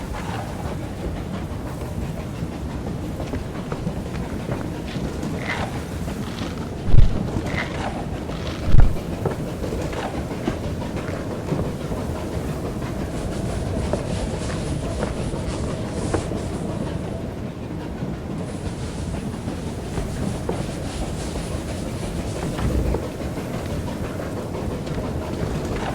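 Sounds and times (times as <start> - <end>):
train rattling on rails: 0.0 - 25.9.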